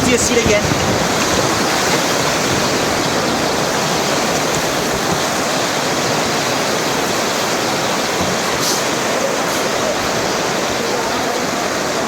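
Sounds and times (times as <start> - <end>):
river rapid whitewater rushing: 0.0 - 12.0.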